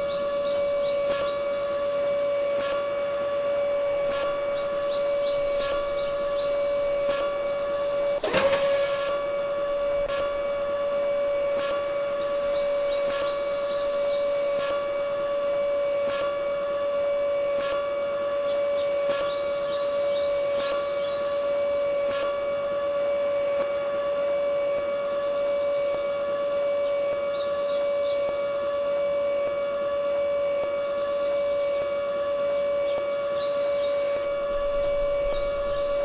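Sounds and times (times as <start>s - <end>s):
electric motor whining: 0.0s - 36.0s.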